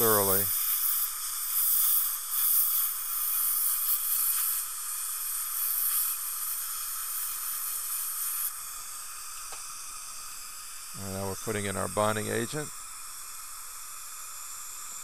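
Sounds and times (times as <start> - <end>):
air syringe hissing: 0.0 - 15.0.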